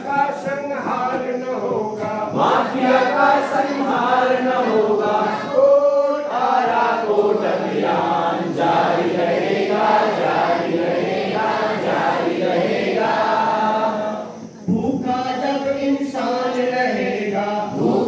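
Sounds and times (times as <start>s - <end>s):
men singing together: 0.0s - 18.0s.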